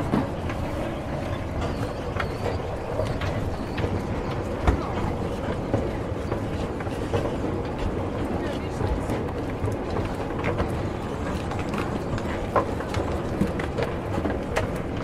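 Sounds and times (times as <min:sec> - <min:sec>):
escalator rumbling: 0:00.0 - 0:15.0
escalator steps clicking and knocking: 0:00.0 - 0:15.0.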